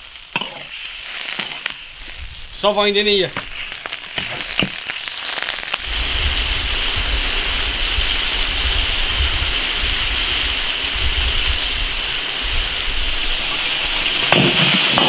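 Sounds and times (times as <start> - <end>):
wok sizzling and bubbling: 0.0 - 15.0.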